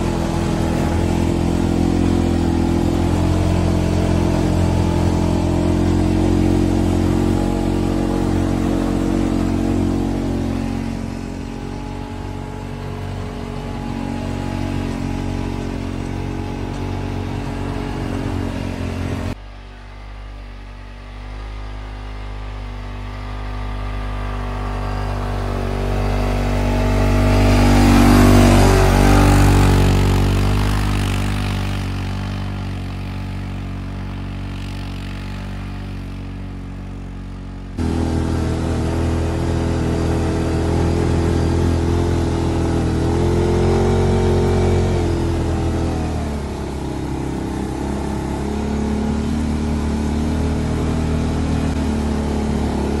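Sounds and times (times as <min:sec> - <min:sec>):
quad engine running: 0:00.0 - 0:53.0
snowplow pushing through snow: 0:00.0 - 0:53.0.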